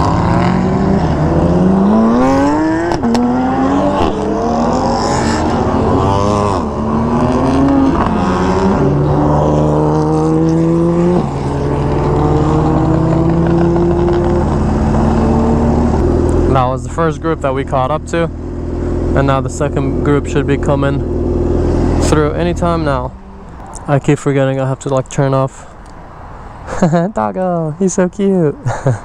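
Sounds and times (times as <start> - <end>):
supercar engines revving: 0.0 - 27.0.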